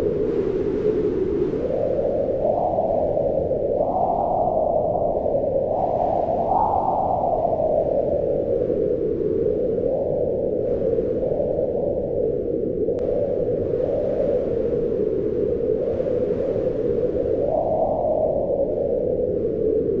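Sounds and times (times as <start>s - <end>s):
howling mountain wind: 0.0s - 20.0s.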